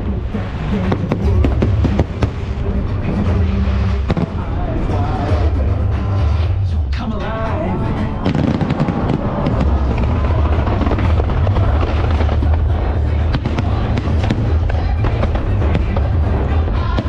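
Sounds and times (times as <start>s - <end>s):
fireworks bursting: 0.0s - 6.5s, 7.9s - 17.0s
music playing: 0.0s - 17.0s.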